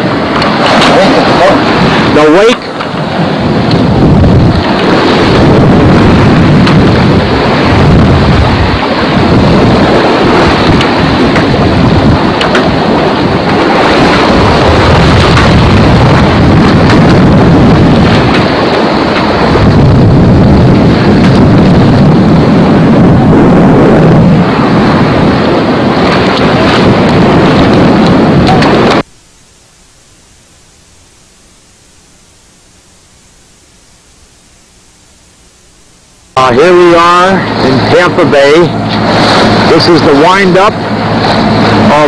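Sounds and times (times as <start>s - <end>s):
wind buffeting the microphone: 0.0s - 29.1s, 36.4s - 42.0s
water rushing in a boat's wake: 0.0s - 29.5s, 35.5s - 42.0s.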